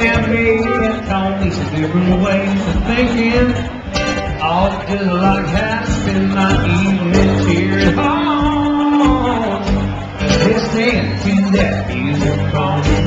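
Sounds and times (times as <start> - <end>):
acoustic guitars strumming: 0.0 - 13.0
man singing: 0.0 - 13.0.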